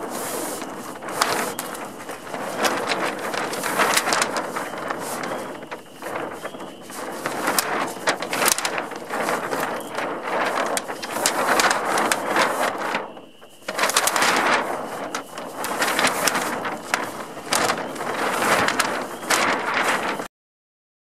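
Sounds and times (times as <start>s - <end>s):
sail crinkling and crackling: 0.0s - 20.3s.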